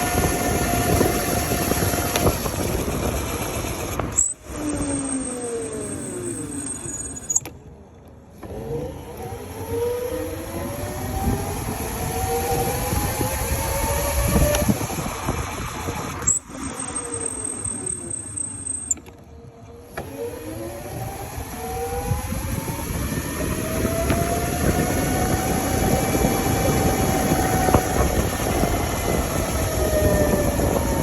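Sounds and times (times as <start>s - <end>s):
electric motor whining: 0.0s - 7.3s, 8.4s - 18.5s, 19.8s - 31.0s
wind and road noise: 0.0s - 31.0s.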